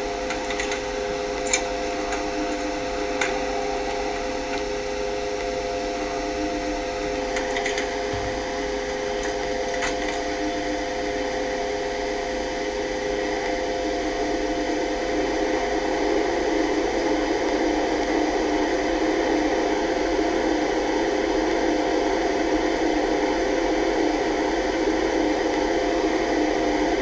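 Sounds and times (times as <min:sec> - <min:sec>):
lift car humming in shaft: 0:00.0 - 0:27.0.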